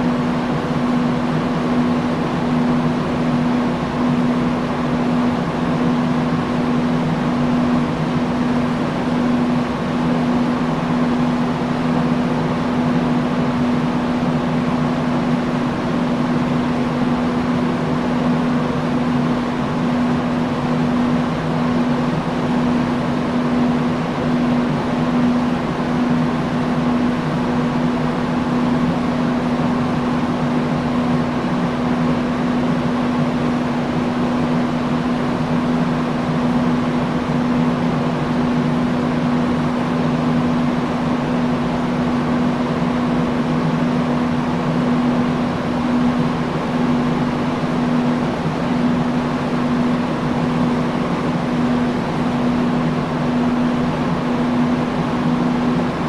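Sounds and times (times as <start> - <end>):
industrial fan whooshing: 0.0 - 56.0.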